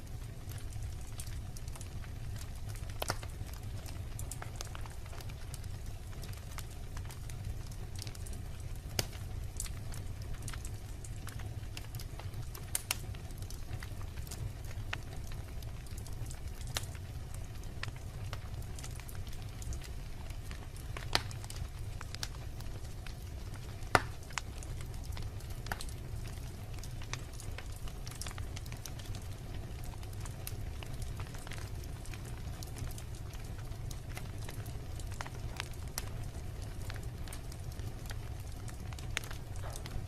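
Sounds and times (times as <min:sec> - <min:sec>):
low rumble of burning logs: 0:00.0 - 0:40.0
wood fire crackling and popping: 0:00.0 - 0:40.0.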